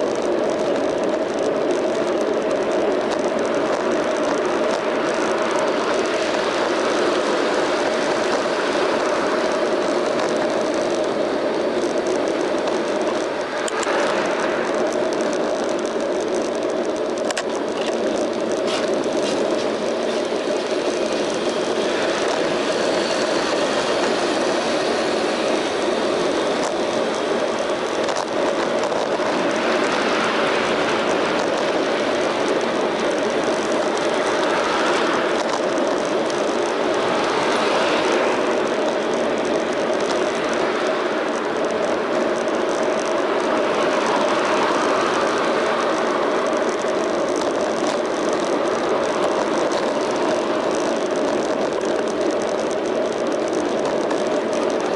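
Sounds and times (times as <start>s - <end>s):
bicycle tyre rumble: 0.0s - 54.9s
passing street traffic: 0.0s - 54.9s
wind noise: 0.0s - 54.9s.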